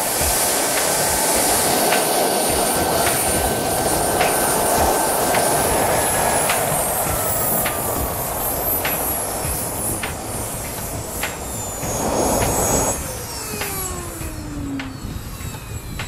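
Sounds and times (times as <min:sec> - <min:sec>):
helicopter rotor noise: 0:00.0 - 0:16.0
high turbine whine: 0:00.0 - 0:16.0.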